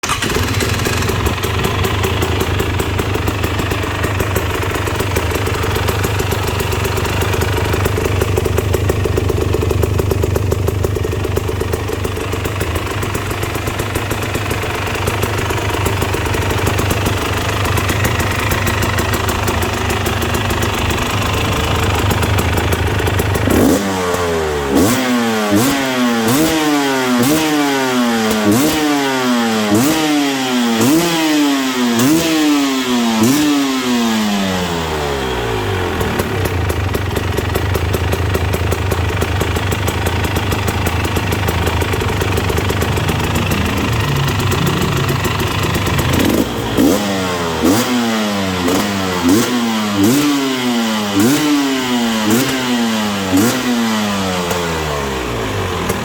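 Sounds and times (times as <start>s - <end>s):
two-stroke engine idling and revving: 0.0s - 56.0s.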